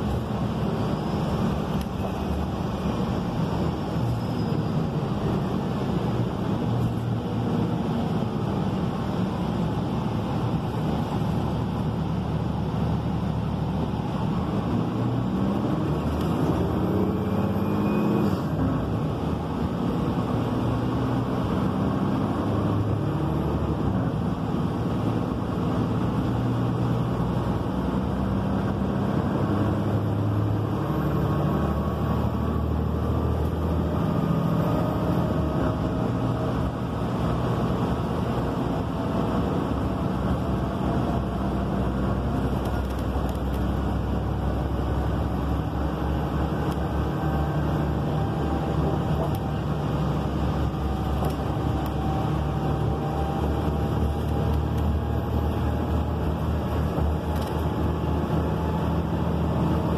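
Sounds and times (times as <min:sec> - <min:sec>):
bus diesel engine running: 0:00.0 - 0:59.9
road and tyre noise: 0:00.0 - 0:59.9.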